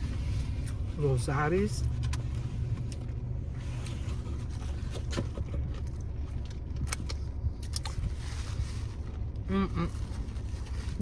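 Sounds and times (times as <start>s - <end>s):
car interior engine rumble: 0.0s - 11.0s.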